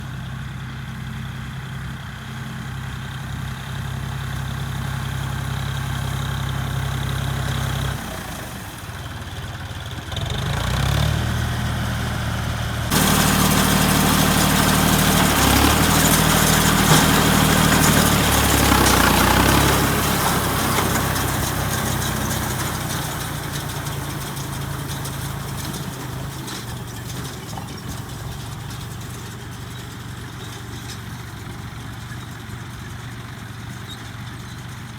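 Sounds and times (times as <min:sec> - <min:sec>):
straw baler engine running: 0:00.0 - 0:34.9.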